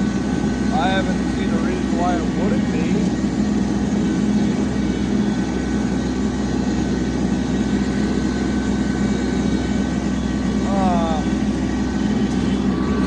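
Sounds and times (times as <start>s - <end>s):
rotary cutter high whine: 0.0s - 13.0s
tractor engine droning: 0.0s - 13.0s.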